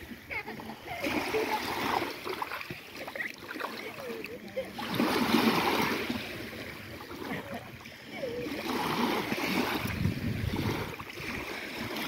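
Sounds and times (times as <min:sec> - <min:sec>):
waves lapping on pebbles: 0:00.0 - 0:12.0.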